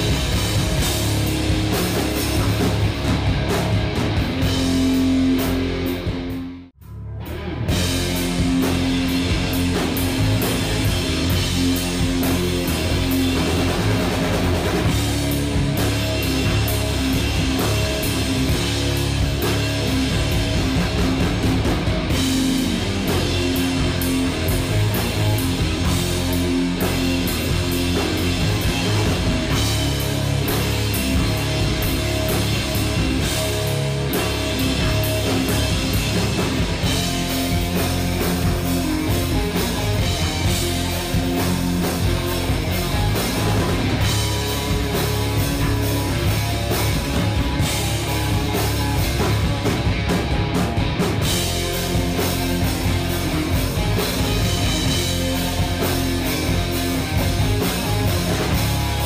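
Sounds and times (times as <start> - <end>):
rock music with guitar and drums: 0.0 - 59.0.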